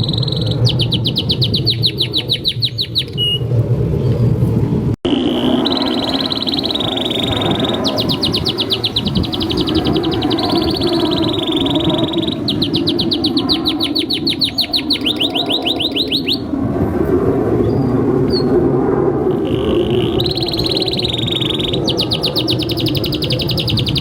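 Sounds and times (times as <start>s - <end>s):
canary singing trills: 0.0s - 3.5s, 5.1s - 16.5s, 19.3s - 24.0s.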